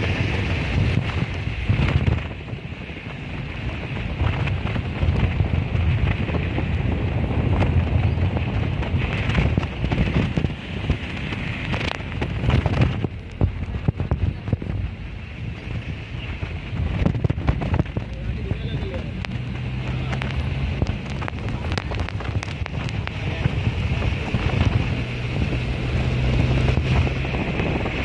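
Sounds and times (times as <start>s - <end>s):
low road rumble: 0.0s - 28.0s
rain on wet road: 0.0s - 28.0s
wind buffeting microphone: 0.0s - 28.0s.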